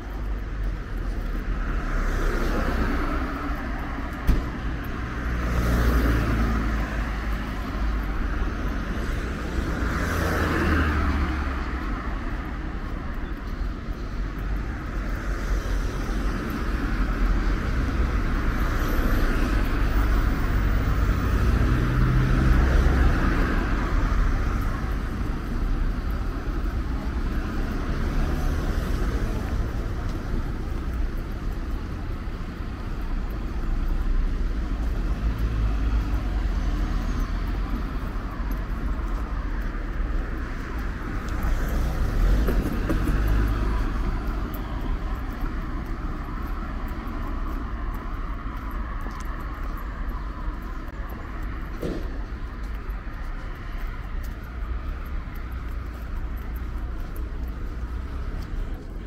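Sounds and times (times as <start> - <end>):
cars driving past: 0.0 - 59.0.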